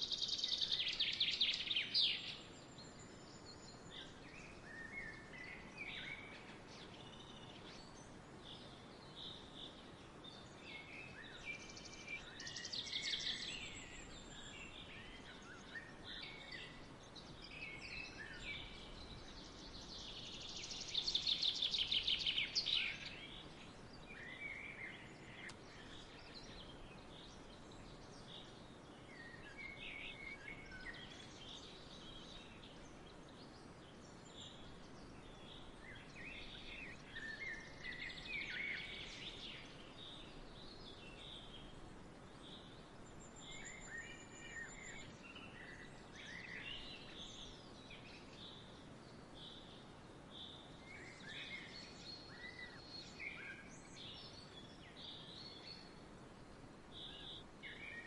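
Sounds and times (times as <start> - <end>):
faint outdoor background hiss: 0.0 - 58.0
small birds chirping: 0.0 - 58.0.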